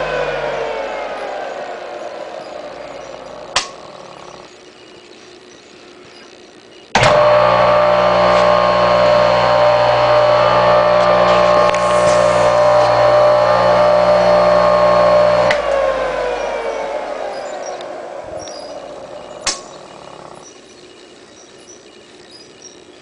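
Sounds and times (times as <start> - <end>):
motor coasting down whine: 0.0 - 23.0
table saw motor humming: 0.0 - 23.0.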